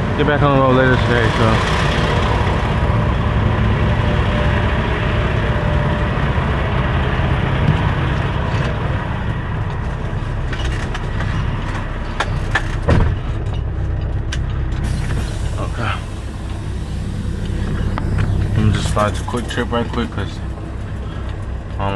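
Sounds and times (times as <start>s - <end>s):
diesel truck engine running: 0.0s - 21.9s.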